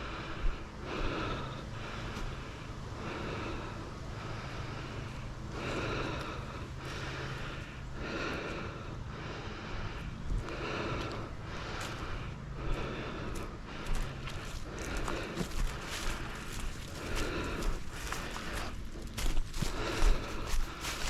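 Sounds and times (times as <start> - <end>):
person breathing hard: 0.0 - 21.0.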